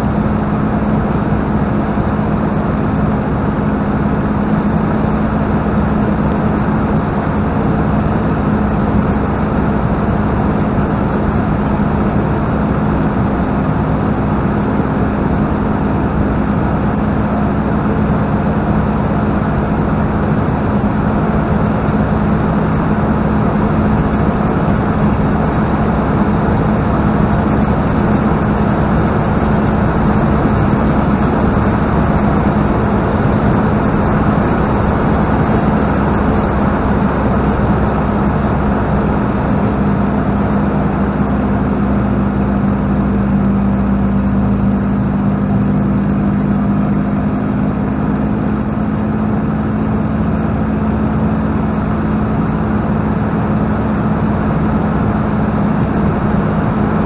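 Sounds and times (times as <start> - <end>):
air rushing past cockpit: 0.0 - 57.0
aircraft engine drone: 0.0 - 57.0.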